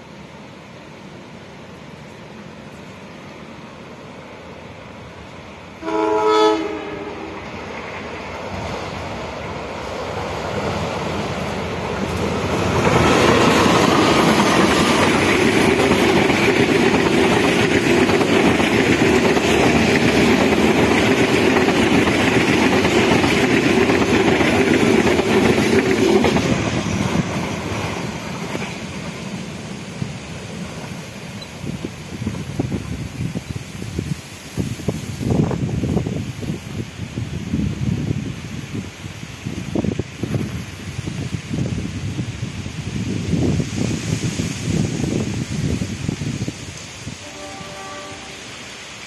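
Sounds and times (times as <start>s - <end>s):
diesel locomotive passing: 0.0s - 49.0s
train wheels on rails: 0.0s - 49.0s.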